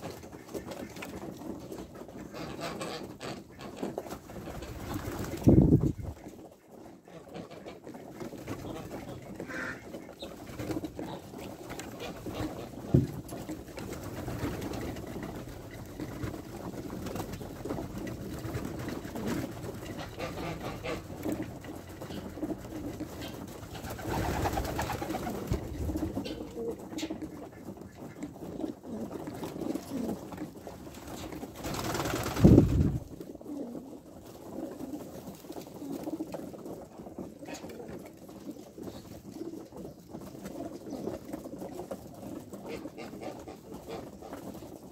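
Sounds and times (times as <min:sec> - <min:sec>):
pigeons cooing: 0:00.0 - 0:44.8.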